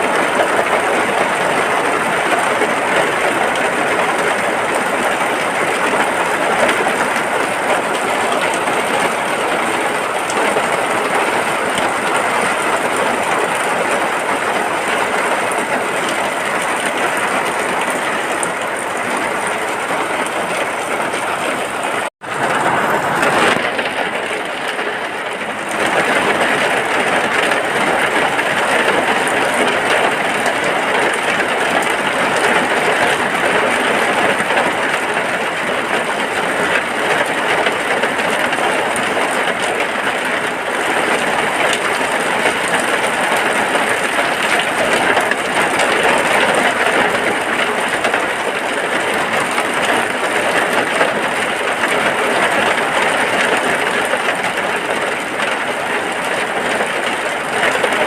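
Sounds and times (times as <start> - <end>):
rain falling on a hut: 0.0 - 58.0.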